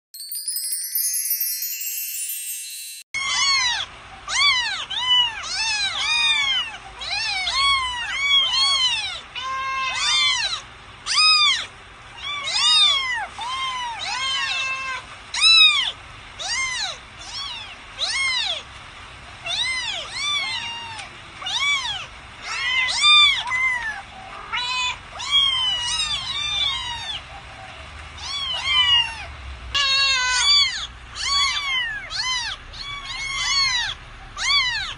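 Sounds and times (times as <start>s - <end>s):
kittens meowing: 3.2s - 18.7s, 19.4s - 27.3s, 28.2s - 34.9s.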